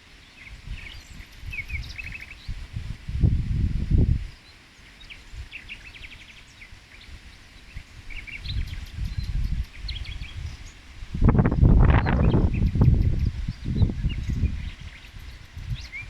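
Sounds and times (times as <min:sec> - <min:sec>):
small birds chirping: 0:00.0 - 0:02.9, 0:03.9 - 0:16.0
wind buffeting microphone: 0:00.4 - 0:04.4, 0:07.0 - 0:16.0.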